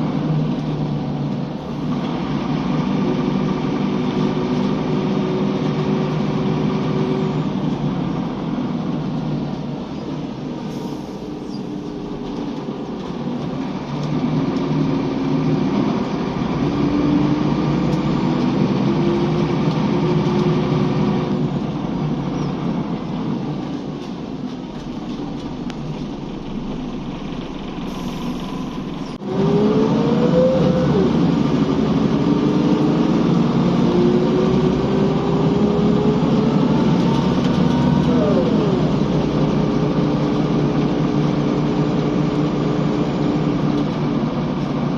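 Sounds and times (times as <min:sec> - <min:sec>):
bus diesel engine accelerating: 0:00.0 - 0:44.9.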